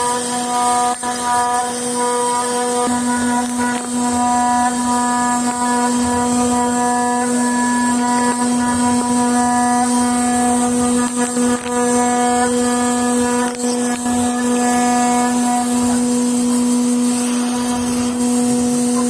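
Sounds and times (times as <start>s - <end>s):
machine electrical hum: 0.0s - 19.0s.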